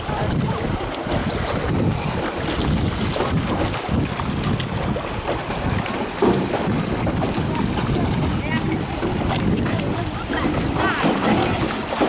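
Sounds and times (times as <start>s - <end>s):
water washing around boat: 0.0s - 12.0s
wind buffeting microphone: 0.0s - 12.0s.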